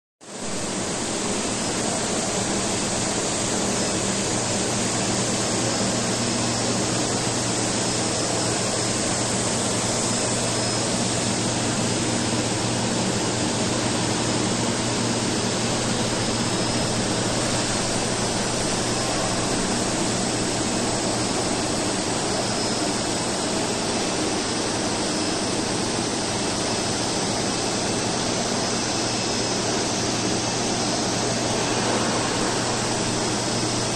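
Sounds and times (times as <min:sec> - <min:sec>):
steady hiss over low hum: 0:00.4 - 0:33.9.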